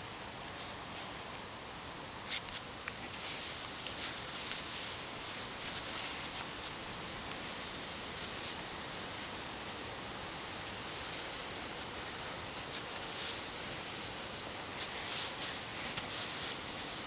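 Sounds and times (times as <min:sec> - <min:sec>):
background hiss: 0:00.0 - 0:17.0
fibres rubbing against fabric: 0:02.3 - 0:17.0.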